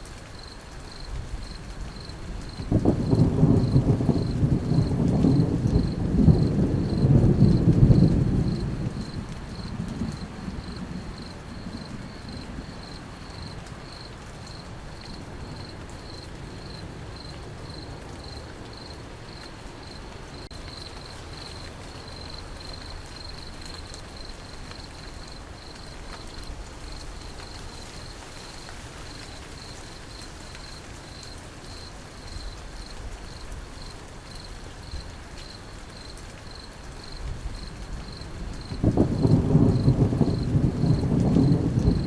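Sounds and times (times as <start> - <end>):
steady rain falling: 0.0 - 42.0
cricket chirping: 0.4 - 42.0.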